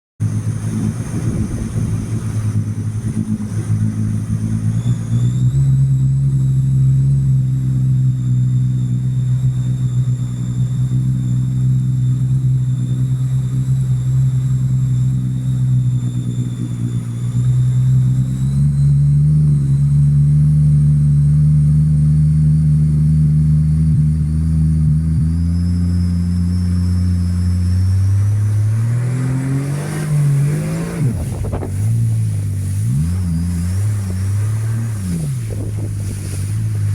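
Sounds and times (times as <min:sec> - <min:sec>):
jet ski engine revving: 0:00.2 - 0:36.9
thin high whine: 0:00.2 - 0:36.9.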